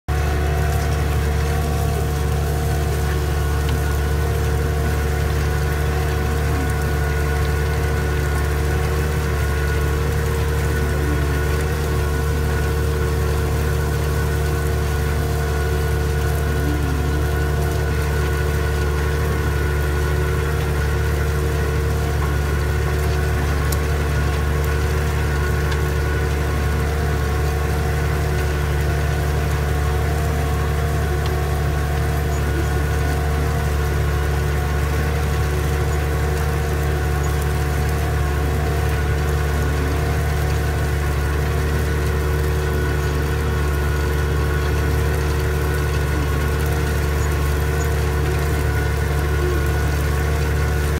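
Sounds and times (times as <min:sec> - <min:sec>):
tractor engine droning: 0:00.1 - 0:50.9.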